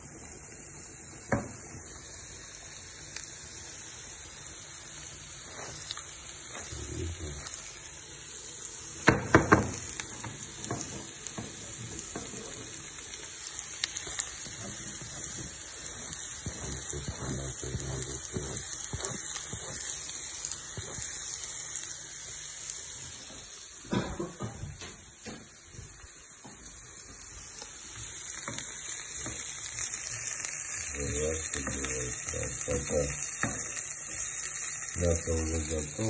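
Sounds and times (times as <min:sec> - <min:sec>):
food sizzling: 0:00.0 - 0:36.0.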